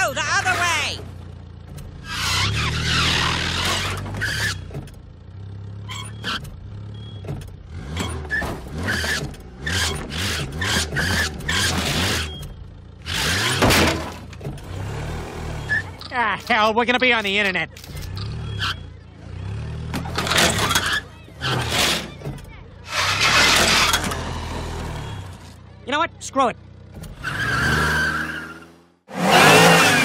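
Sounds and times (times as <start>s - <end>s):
car engine revving: 0.0s - 25.5s, 26.7s - 30.0s.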